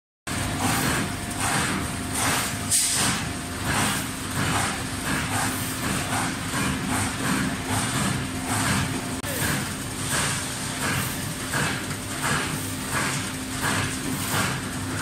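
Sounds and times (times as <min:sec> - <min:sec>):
roll forming machine humming: 0:00.3 - 0:15.0.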